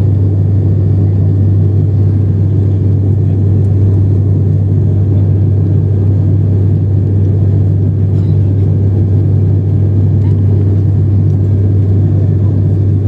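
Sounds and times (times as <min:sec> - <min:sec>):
airliner engine and propeller drone: 0:00.0 - 0:13.0.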